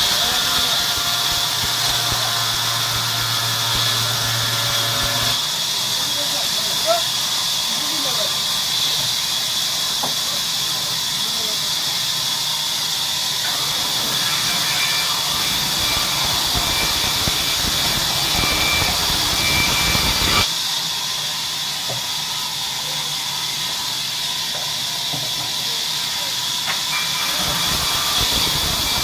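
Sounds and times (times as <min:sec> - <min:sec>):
saw cutting log with squeals: 0:00.0 - 0:20.5, 0:24.3 - 0:29.0
band saw hissing: 0:00.0 - 0:29.0.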